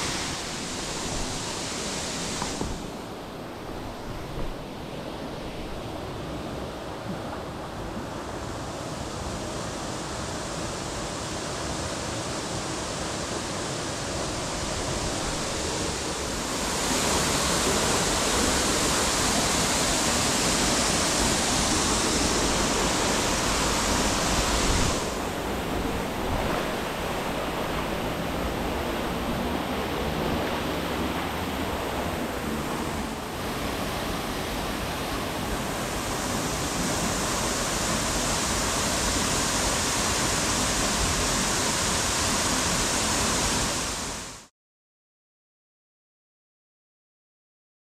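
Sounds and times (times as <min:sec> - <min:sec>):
waterfall rushing into pool: 0:00.0 - 0:06.1, 0:08.5 - 0:44.5.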